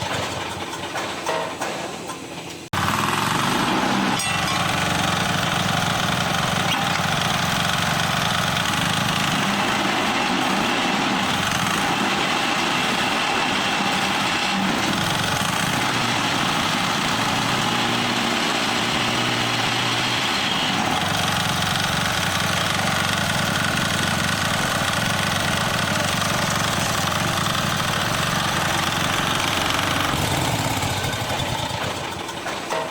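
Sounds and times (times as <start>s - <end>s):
small diesel engine running: 0.0s - 1.3s, 2.7s - 32.9s.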